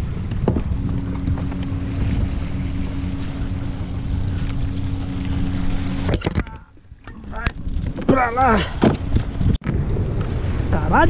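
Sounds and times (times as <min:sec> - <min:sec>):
steady low hum: 0:00.0 - 0:10.7
wind buffeting microphone: 0:00.0 - 0:11.0.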